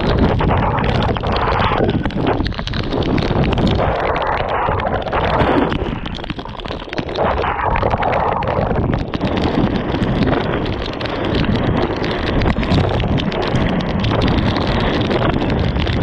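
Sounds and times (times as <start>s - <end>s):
inline skates rolling over mud: 0.0s - 16.0s
wind buffeting microphone: 0.0s - 16.0s.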